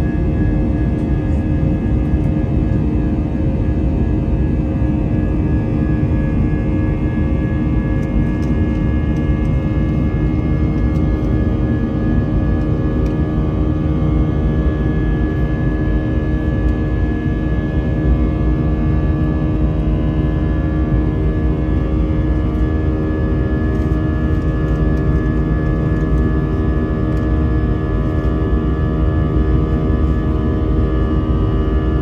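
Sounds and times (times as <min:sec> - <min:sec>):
high steady whine: 0:00.0 - 0:32.0
jet engine rumble in cabin: 0:00.0 - 0:32.0.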